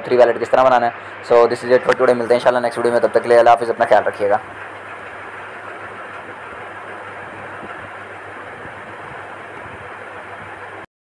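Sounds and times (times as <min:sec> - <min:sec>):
steady hiss: 0:00.0 - 0:10.8
low hum: 0:00.9 - 0:10.9.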